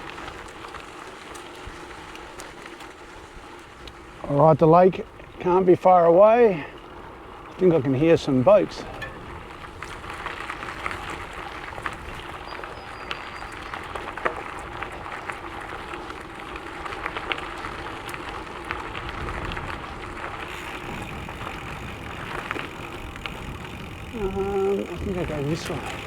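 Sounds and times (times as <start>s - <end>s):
bike tyres crunching on gravel: 0.0s - 26.0s.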